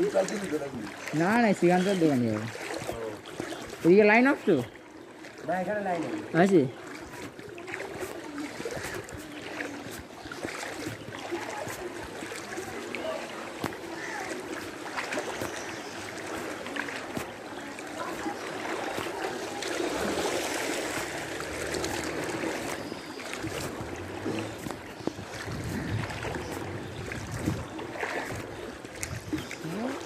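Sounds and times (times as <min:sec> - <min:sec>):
person wading through water: 0:00.0 - 0:30.0.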